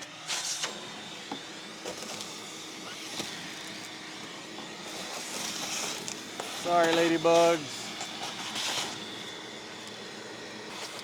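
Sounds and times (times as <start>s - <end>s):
vacuum running: 0.0s - 11.0s.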